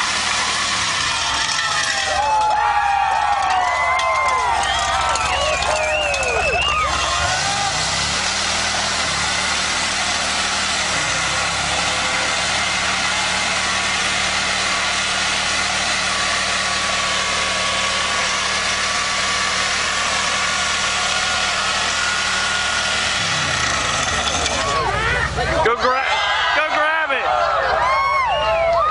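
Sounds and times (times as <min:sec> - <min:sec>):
wheel rim grinding on asphalt: 0:00.0 - 0:03.6, 0:04.2 - 0:25.2
engine hum: 0:00.0 - 0:28.9.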